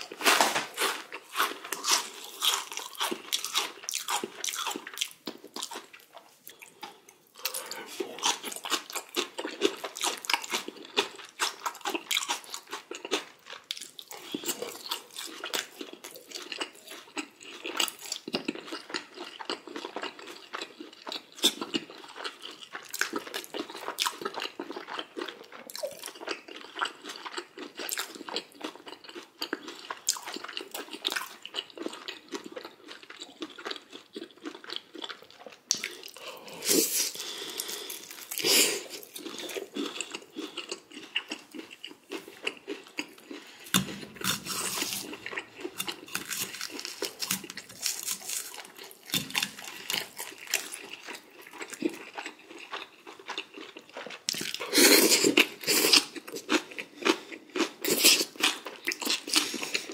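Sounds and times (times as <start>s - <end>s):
crunching bites and chewing: 0.0s - 59.9s.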